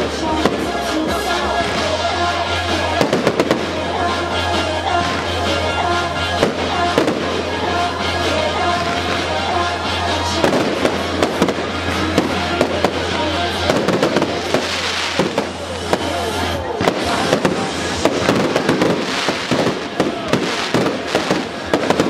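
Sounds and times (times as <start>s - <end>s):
music playing: 0.0s - 22.0s
fireworks bursting: 0.3s - 5.4s, 6.3s - 22.0s.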